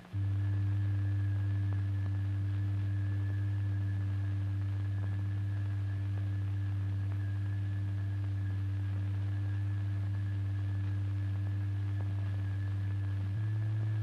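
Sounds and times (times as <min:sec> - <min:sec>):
faint pulsing: 0:00.0 - 0:14.0
low electronic sine hum: 0:00.0 - 0:14.0.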